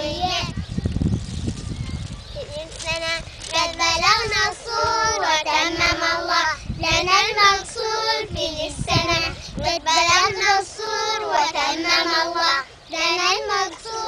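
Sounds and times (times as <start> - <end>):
young girls singing: 0.0 - 0.5, 2.5 - 14.0.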